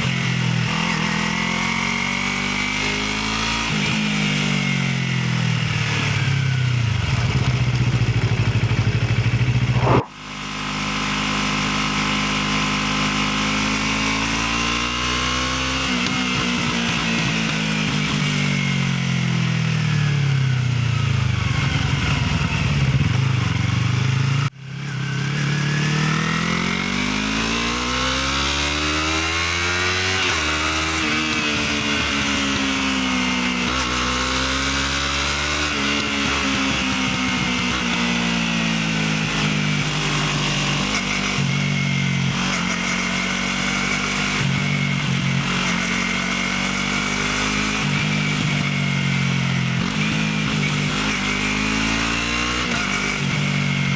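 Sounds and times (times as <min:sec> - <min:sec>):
motorcycle engine rising and falling: 0:00.0 - 0:53.9.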